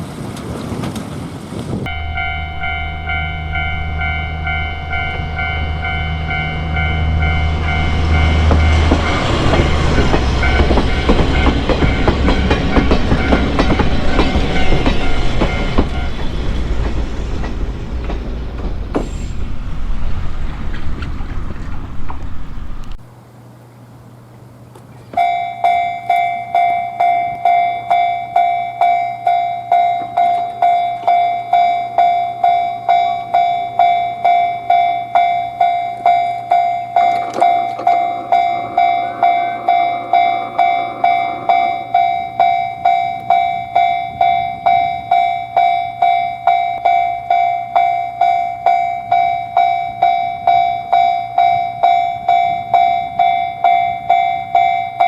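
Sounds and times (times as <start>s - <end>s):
passing train rumble: 0.0s - 23.2s, 28.9s - 55.0s
railroad crossing bell ringing: 1.9s - 23.0s, 25.2s - 55.0s.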